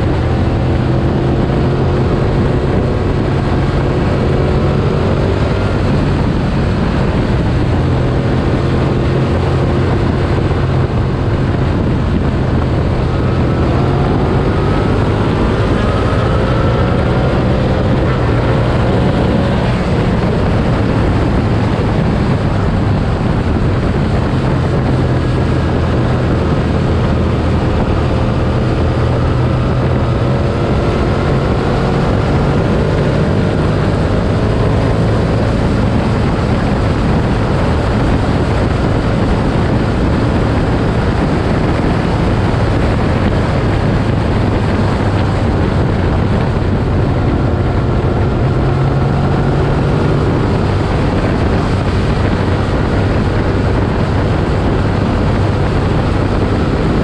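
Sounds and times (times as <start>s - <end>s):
motorcycle engine accelerating: 0.0s - 57.0s
wind rushing: 0.0s - 57.0s.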